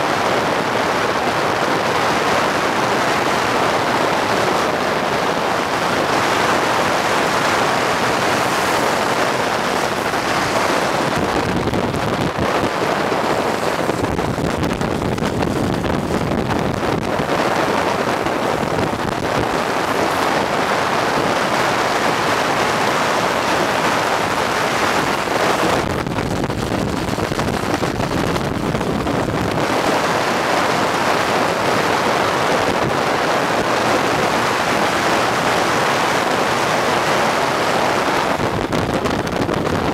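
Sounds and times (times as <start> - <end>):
wind and road noise: 0.0 - 39.9
wind buffeting microphone: 0.0 - 39.9.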